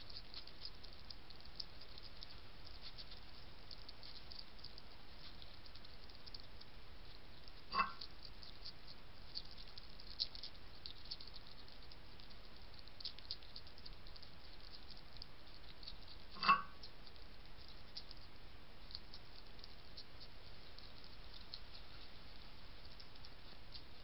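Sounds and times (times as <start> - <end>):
hedgehog crunching kibble: 0.0 - 24.0.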